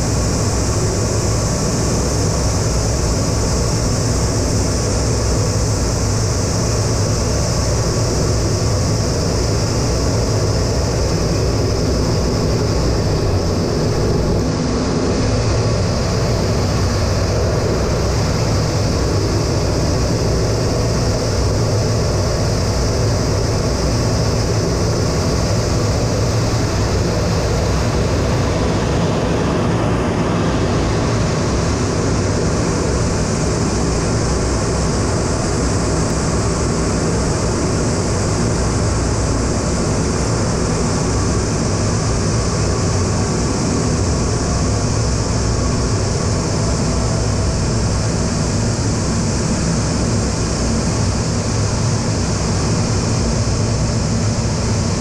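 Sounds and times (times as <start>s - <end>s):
jet engines from cockpit: 0.0s - 55.0s.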